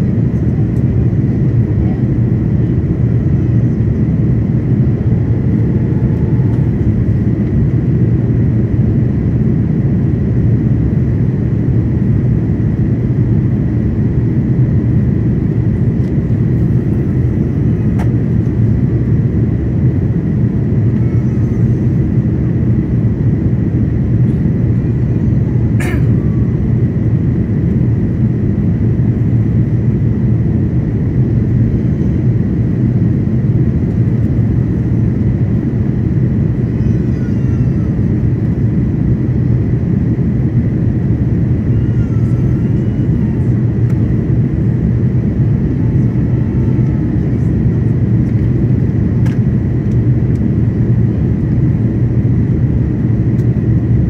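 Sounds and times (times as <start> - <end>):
airplane cabin roar: 0.0 - 54.0
faint steady whine: 0.0 - 54.0.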